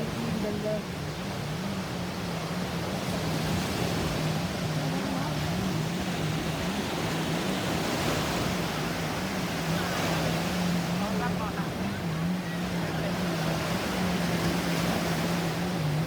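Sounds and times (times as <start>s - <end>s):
motorboat engine droning: 0.0s - 16.0s
wind and water rushing: 0.0s - 16.0s.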